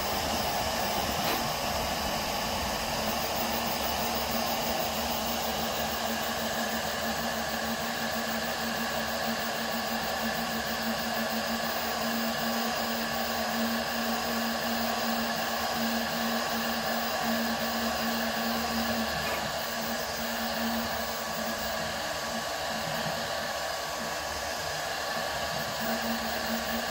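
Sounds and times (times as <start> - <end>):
cooling fans whirring: 0.0 - 26.9.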